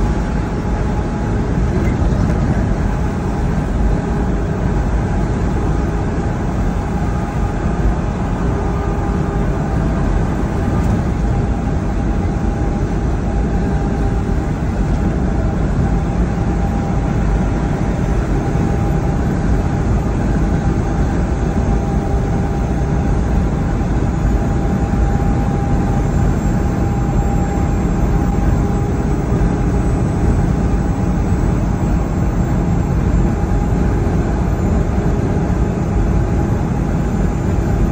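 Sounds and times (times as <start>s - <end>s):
diesel engine and tyre drone: 0.0s - 37.9s
faint steady whine: 0.0s - 37.9s.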